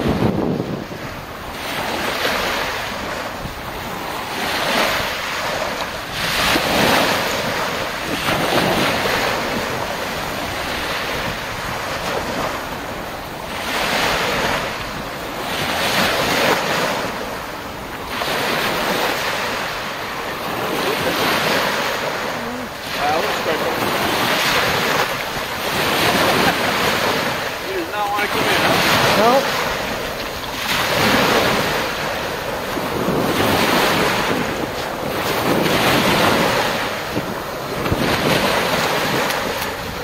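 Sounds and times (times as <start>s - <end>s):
small waves breaking on shore: 0.0s - 40.0s
wind buffeting microphone: 0.0s - 40.0s.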